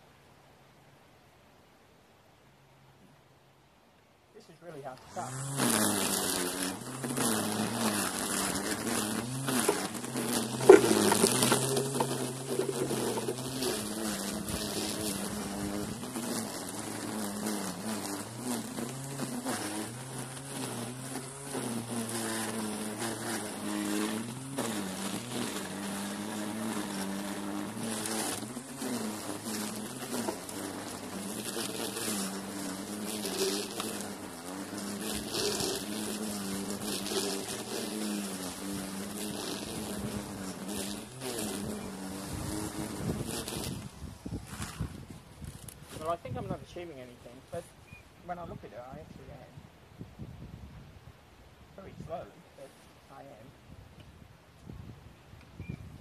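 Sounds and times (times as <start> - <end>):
string trimmer cutting grass: 4.4 - 56.0.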